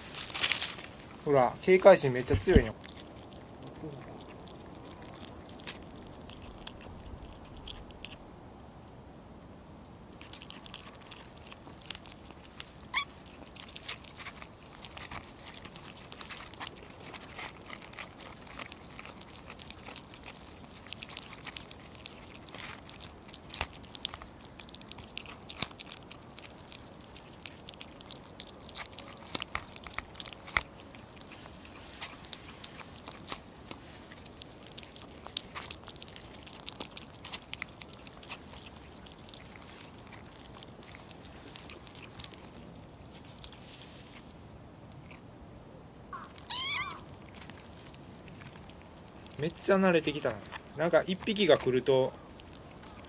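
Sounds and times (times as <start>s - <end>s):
kittens chewing and smacking: 0.0s - 8.5s, 9.9s - 53.0s.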